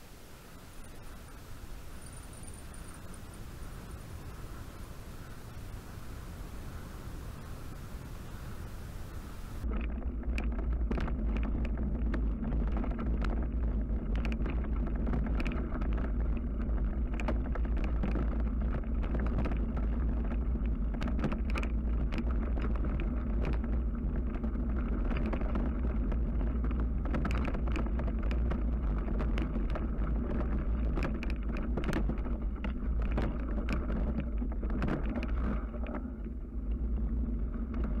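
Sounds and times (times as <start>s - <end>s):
wind buffeting microphone: 0.0s - 38.0s
bike clicks and rattles: 0.8s - 38.0s.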